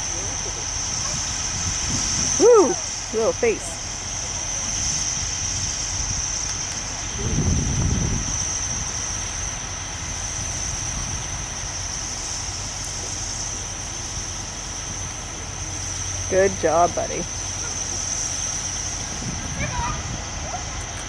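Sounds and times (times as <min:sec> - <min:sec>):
high hiss: 0:00.0 - 0:21.0
vehicle engine rumble: 0:00.0 - 0:21.0.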